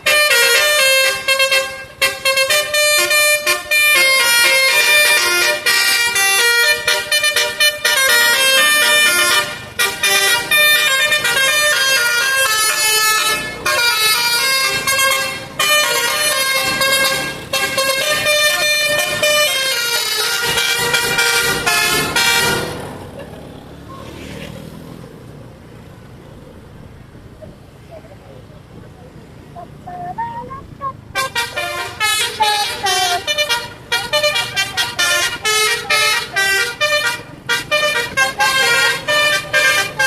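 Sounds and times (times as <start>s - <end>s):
multi-trumpet air horn tune: 0.0s - 22.8s, 30.5s - 40.0s
background noise: 0.0s - 40.0s.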